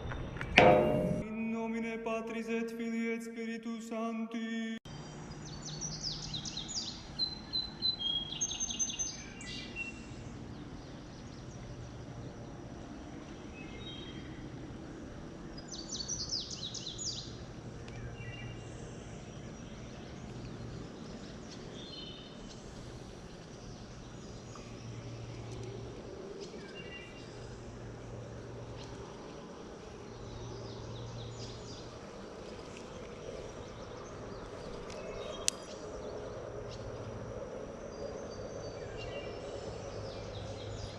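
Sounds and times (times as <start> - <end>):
low outdoor background: 0.0 - 40.9.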